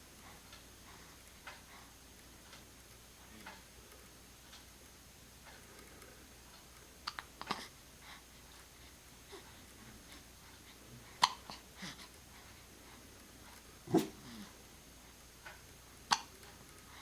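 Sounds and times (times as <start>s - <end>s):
faint steady ticking: 0.0s - 17.0s.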